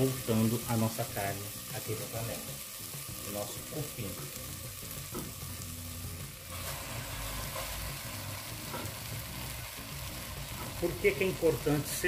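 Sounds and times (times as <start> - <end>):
meat and onions sizzling: 0.0 - 12.0.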